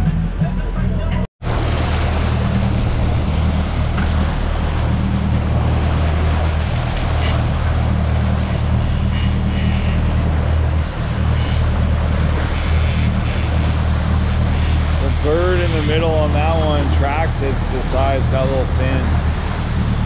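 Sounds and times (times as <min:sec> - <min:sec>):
boat engine hum: 0:00.0 - 0:20.0
water wash of wake: 0:01.4 - 0:20.0.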